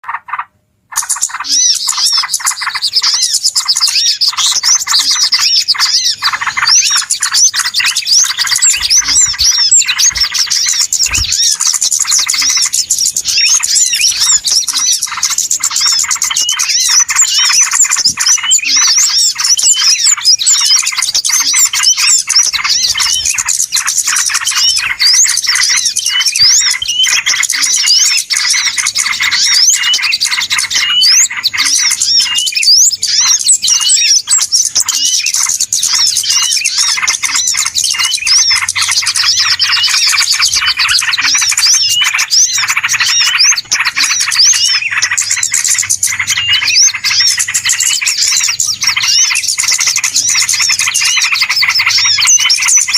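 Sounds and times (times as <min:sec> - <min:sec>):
small birds chirping and twittering: 0:00.0 - 0:52.9.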